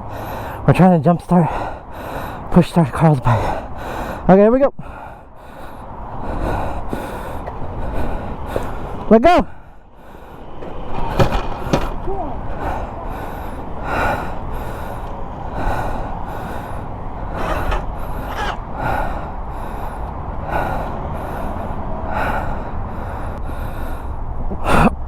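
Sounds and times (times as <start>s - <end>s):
distant traffic: 0.0s - 25.0s
heavy panting breaths: 0.0s - 25.0s
wind: 0.0s - 25.0s.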